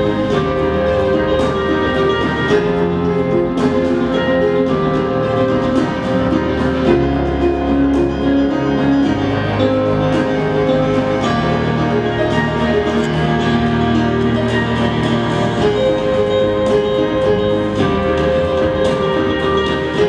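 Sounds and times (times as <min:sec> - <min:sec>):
instrumental music with held notes: 0:00.0 - 0:20.0
soft percussive accents: 0:00.0 - 0:20.0.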